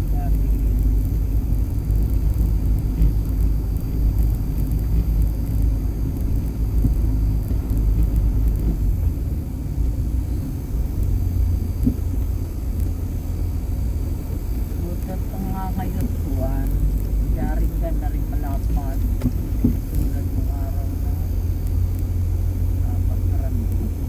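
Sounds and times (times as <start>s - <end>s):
car driving over rough road: 0.0s - 24.0s.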